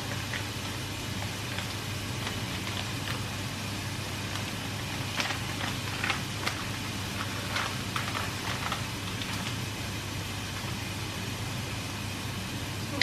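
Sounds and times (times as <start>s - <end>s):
plastic packet crackling: 0.0s - 10.8s
food frying in a pan: 0.0s - 12.2s
hob hum and hiss: 0.0s - 13.0s.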